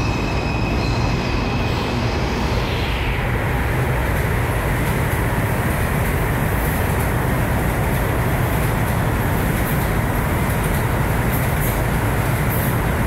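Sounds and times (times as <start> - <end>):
subway train rumbling on rails: 0.0 - 13.0.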